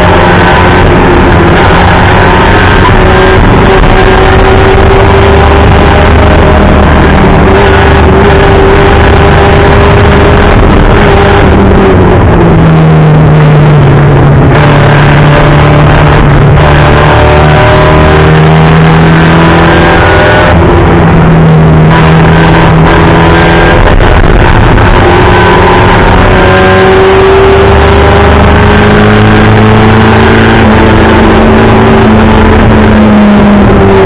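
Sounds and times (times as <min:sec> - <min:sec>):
race car engine under load: 0:00.0 - 0:34.0.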